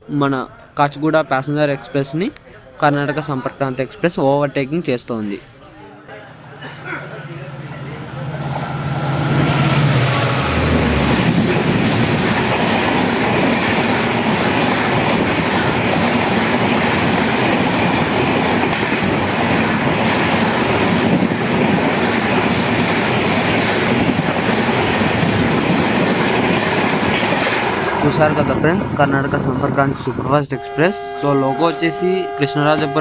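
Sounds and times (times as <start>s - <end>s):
express train passing: 6.1s - 33.0s.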